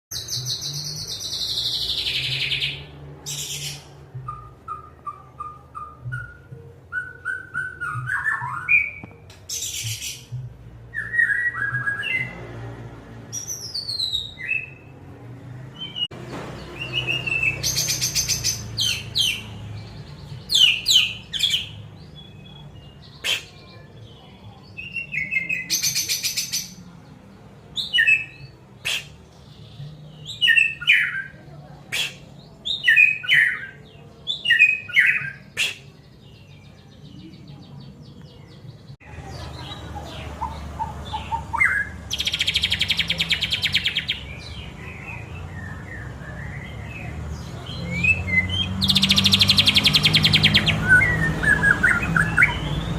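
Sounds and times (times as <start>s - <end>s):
songbird singing: 0.1s - 52.9s.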